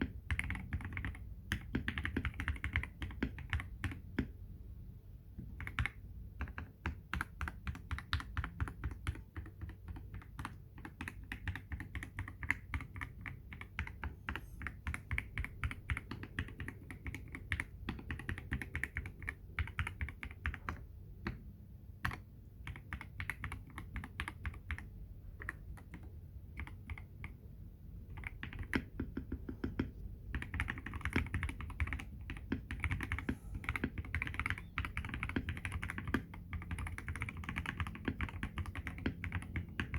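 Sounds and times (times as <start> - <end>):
mechanical keyboard typing: 0.0 - 4.3, 5.4 - 21.4, 22.0 - 27.4, 28.0 - 39.9.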